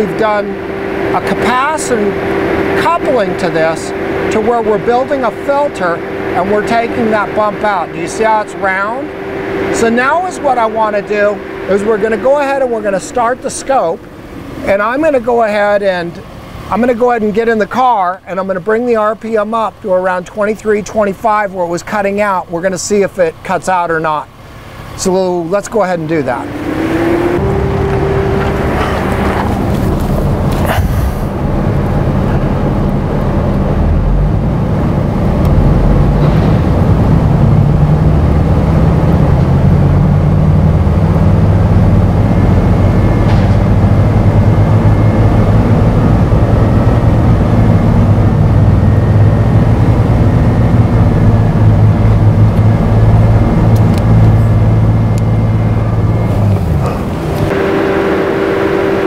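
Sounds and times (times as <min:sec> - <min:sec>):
car engine revving: 0:00.0 - 0:16.9, 0:25.7 - 0:59.0.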